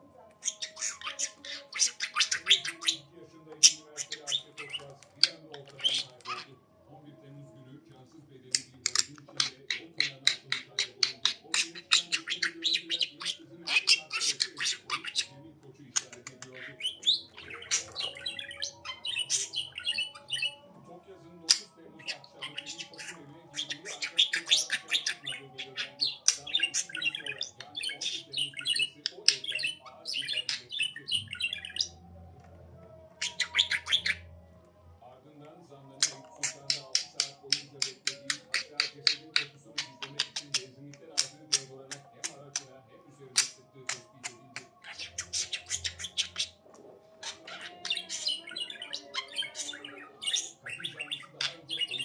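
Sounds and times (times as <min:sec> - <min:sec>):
budgerigar chattering and squawking: 0:00.4 - 0:06.5, 0:08.5 - 0:15.4, 0:16.0 - 0:20.7, 0:21.5 - 0:32.0, 0:33.1 - 0:34.3, 0:36.0 - 0:42.7, 0:43.3 - 0:52.0.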